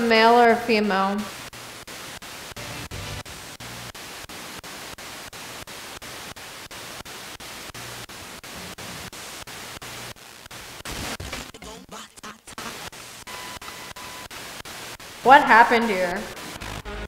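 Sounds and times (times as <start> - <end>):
choppy radio static: 0.0 - 17.0
faint radio tones: 0.0 - 17.0.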